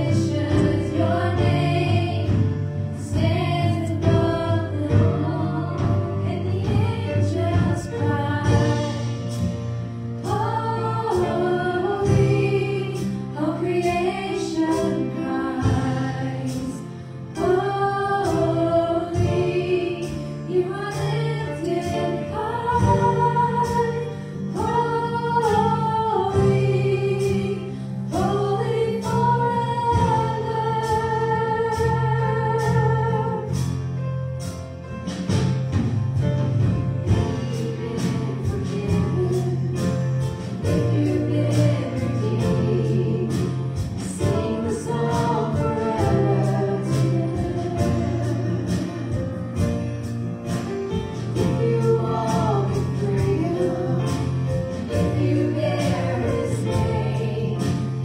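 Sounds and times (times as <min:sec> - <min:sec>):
keyboard and band accompaniment: 0:00.0 - 0:58.0.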